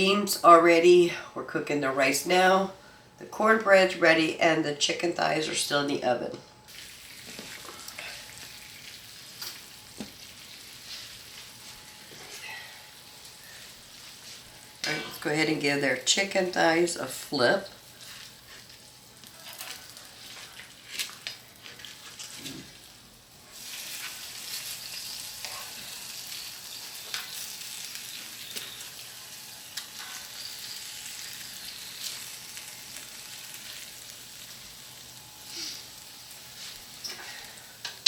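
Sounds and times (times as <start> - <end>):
chicken sizzling in a pan: 6.7 - 16.4, 17.1 - 38.0.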